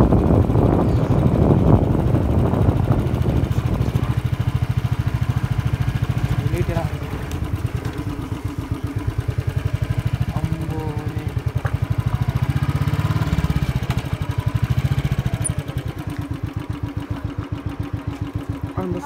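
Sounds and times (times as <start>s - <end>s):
motorcycle engine putter: 3.0s - 19.0s.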